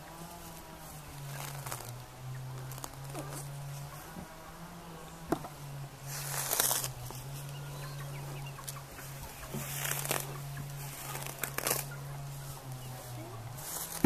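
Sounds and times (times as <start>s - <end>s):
hens clucking: 0.0s - 5.8s, 7.0s - 14.0s
steady low hum: 0.0s - 14.0s.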